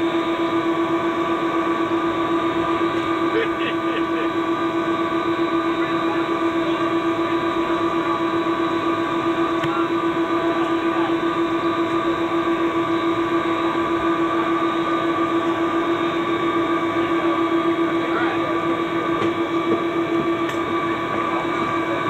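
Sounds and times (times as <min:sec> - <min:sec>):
aircraft cabin drone: 0:00.0 - 0:22.0.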